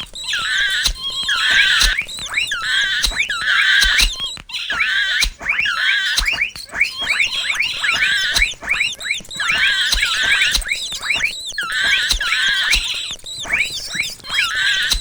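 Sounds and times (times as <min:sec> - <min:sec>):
sharp click: 0:00.0 - 0:05.6, 0:06.2 - 0:15.0
mouse squeaking: 0:00.0 - 0:15.0.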